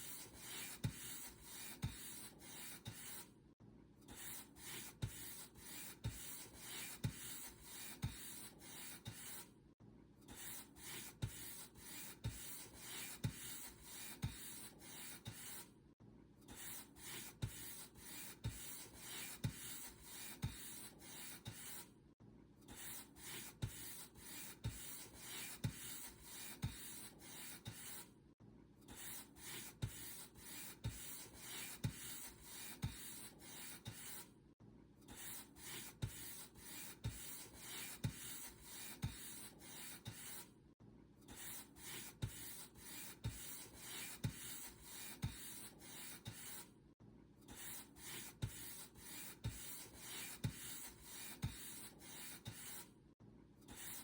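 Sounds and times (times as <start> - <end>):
paint brush strokes on surface: 0.0 - 3.3, 4.2 - 9.4, 10.4 - 15.7, 16.6 - 21.9, 22.8 - 28.1, 28.9 - 34.3, 35.1 - 40.5, 41.3 - 46.7, 47.5 - 52.9.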